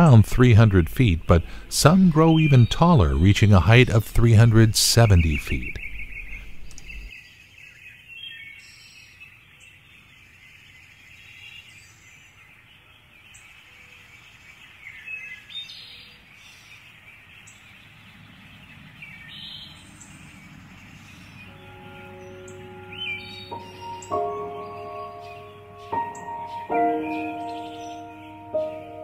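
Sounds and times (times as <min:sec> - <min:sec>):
birds chirping and calling: 0:00.0 - 0:29.0.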